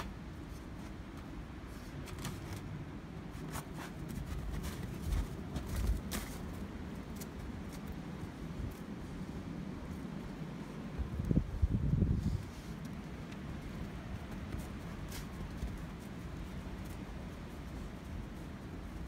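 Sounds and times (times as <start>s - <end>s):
footsteps crunching in snow: 0.0s - 10.8s, 12.0s - 19.0s
steady low rumble: 0.0s - 19.0s.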